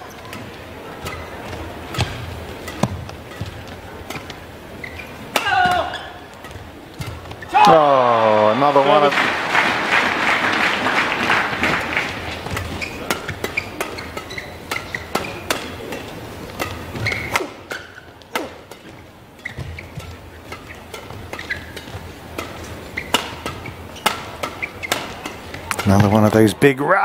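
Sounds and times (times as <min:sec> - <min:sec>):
rackets striking shuttlecock: 0:00.0 - 0:09.0, 0:11.0 - 0:26.3
shoes squeaking on court: 0:00.0 - 0:09.0, 0:11.0 - 0:26.4
crowd noise: 0:00.0 - 0:27.0.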